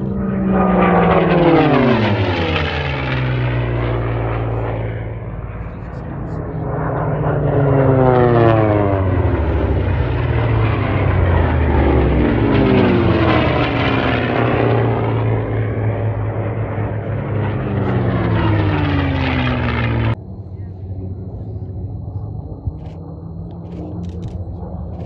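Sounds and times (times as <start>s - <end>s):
propeller planes flying past: 0.0s - 25.0s.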